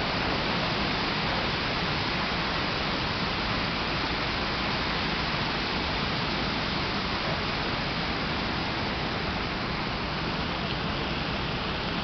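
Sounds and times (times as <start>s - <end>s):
fountain water rushing and splashing: 0.0s - 12.0s.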